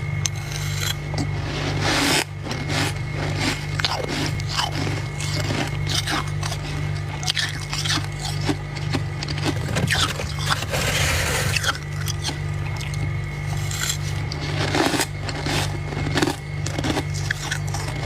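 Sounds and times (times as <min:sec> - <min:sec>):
frost crunching and scraping in bowl: 0:00.0 - 0:18.0
steady low hum: 0:00.0 - 0:18.0.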